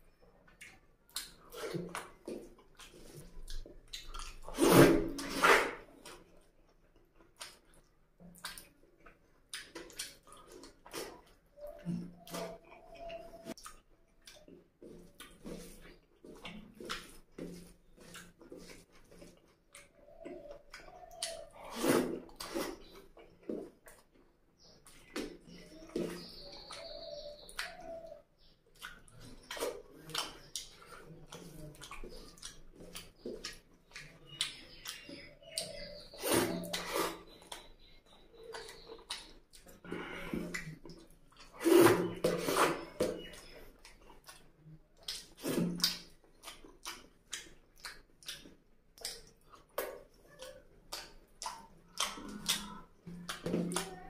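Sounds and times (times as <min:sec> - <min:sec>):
food squishing by hand: 0:00.0 - 0:54.0
wet chewing and lip smacks: 0:00.1 - 0:04.5, 0:05.9 - 0:54.0.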